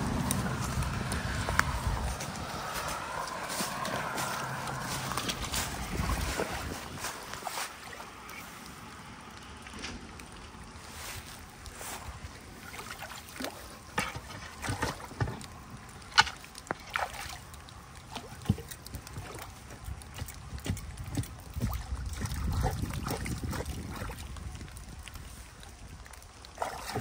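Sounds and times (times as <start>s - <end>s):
splashing in shallow water: 0.0s - 27.0s.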